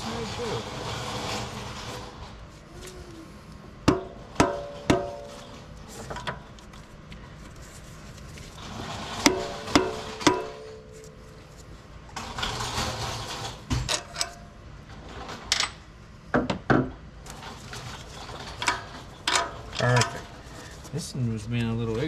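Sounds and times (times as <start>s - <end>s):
scraping and rattling: 0.0s - 2.9s, 3.9s - 15.7s, 17.2s - 21.0s.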